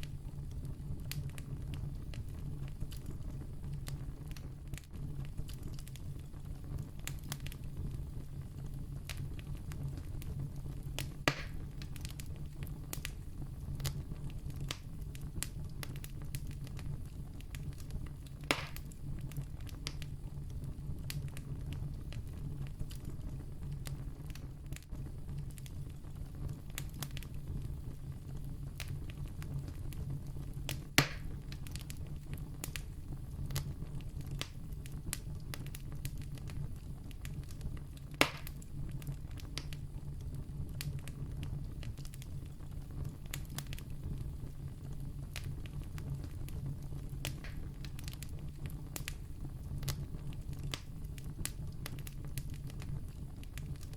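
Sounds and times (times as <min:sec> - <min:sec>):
campfire crackling: 0:00.0 - 0:53.9
sharp fire pops: 0:09.0 - 0:53.9.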